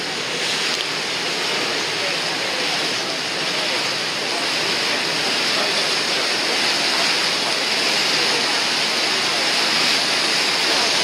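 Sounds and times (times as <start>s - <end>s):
water rushing past boat: 0.0s - 11.0s.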